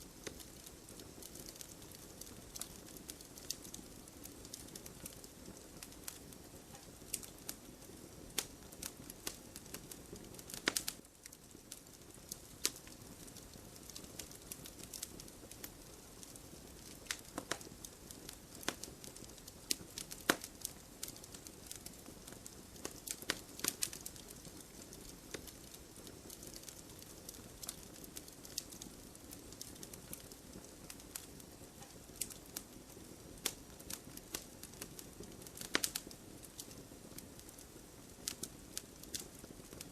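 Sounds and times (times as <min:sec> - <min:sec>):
hiss of burning: 0:00.0 - 0:39.9
bonfire pops and snaps: 0:00.1 - 0:39.9.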